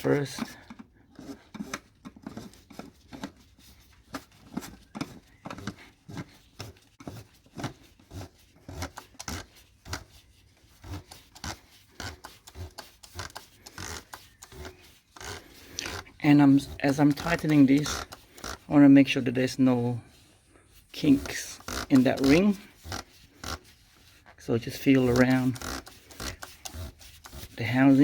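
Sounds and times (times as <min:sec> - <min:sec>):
plastic cap clicking and scraping: 0:00.0 - 0:10.2, 0:10.8 - 0:18.7, 0:20.8 - 0:28.0.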